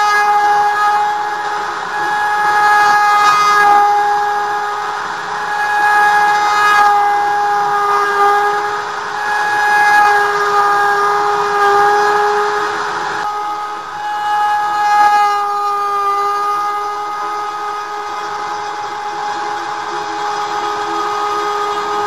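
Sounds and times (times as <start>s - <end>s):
router spindle milling board: 0.0s - 22.0s.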